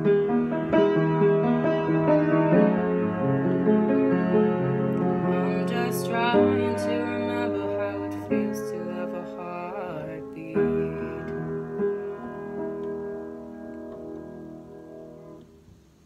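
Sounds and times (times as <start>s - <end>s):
upright piano chords: 0.0s - 16.0s.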